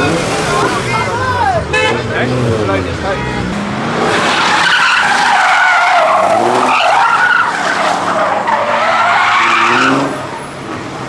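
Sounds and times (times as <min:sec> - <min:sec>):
car engine revving: 0:00.0 - 0:11.0
car tyres squealing: 0:00.0 - 0:11.0.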